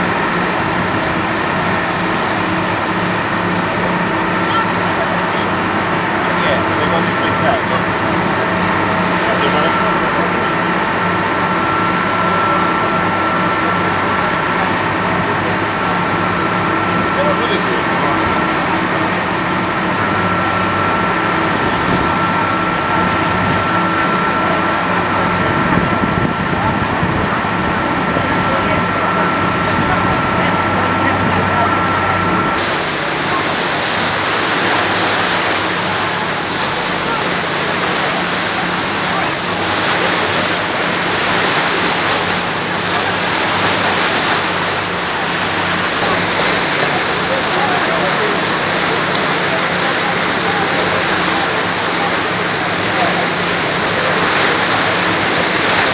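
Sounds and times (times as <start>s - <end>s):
boat engine running: 0.0s - 55.9s
rush of noise: 0.0s - 55.9s.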